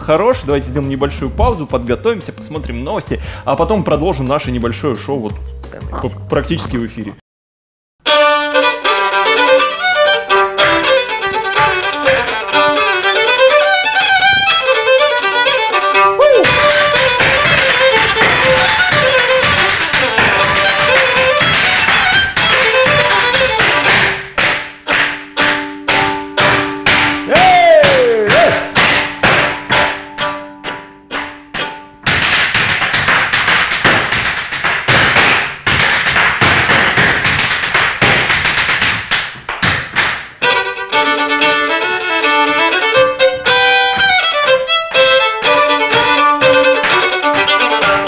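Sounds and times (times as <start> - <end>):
fiddle tune: 0.0 - 7.2, 8.0 - 35.2, 40.4 - 48.0
hard shoes tapping on floor: 9.2 - 48.0.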